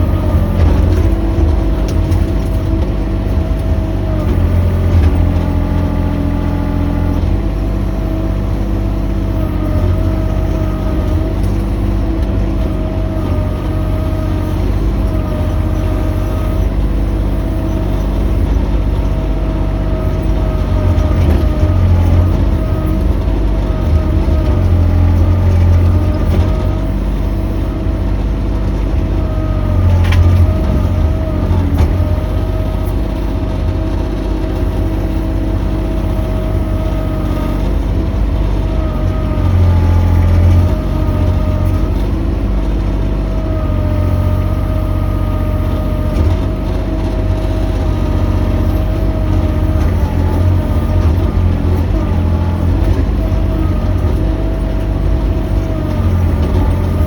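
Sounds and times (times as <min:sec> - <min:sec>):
excavator engine whining: 0:00.0 - 0:57.0.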